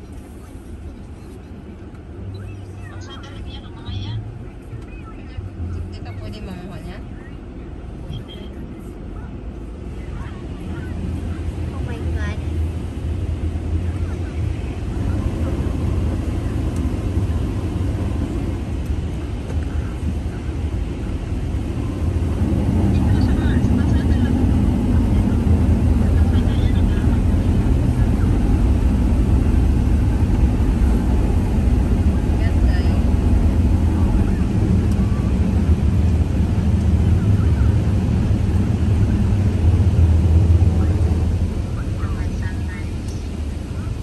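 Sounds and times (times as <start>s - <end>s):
car idling low rumble: 0.0s - 44.0s.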